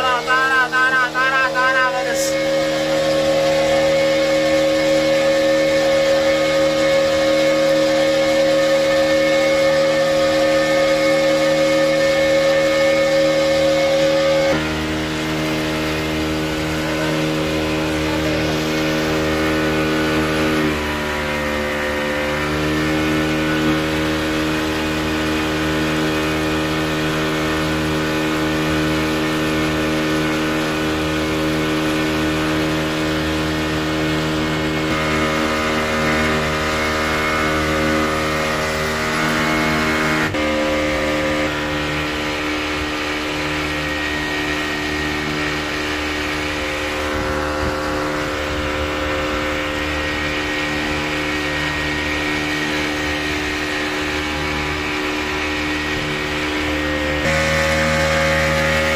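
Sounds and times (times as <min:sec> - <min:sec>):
boat engine running: 0:00.0 - 0:58.9.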